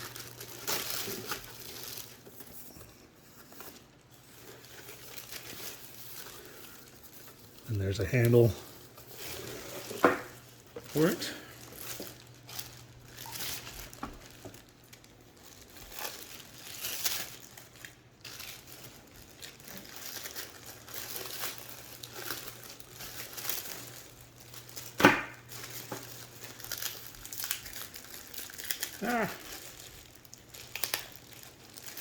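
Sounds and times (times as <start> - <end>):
packaging crinkling and rustling: 0.0 - 32.0.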